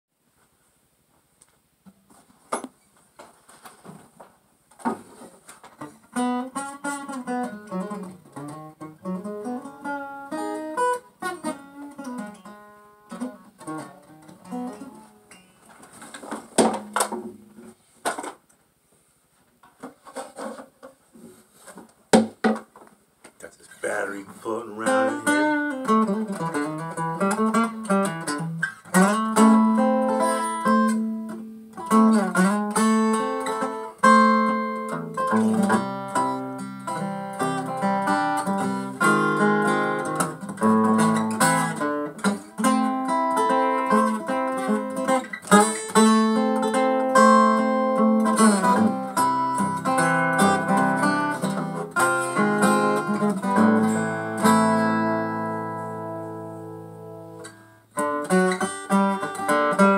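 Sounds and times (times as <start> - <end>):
acoustic guitar playing blues: 5.1 - 17.8, 23.4 - 59.9.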